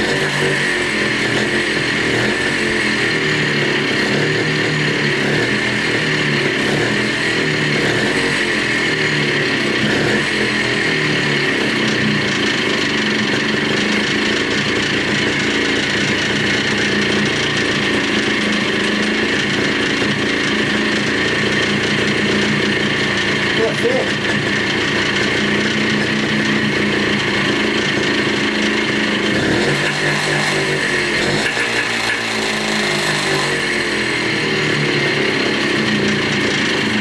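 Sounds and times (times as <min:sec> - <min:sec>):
two-stroke engine running: 0:00.0 - 0:37.0.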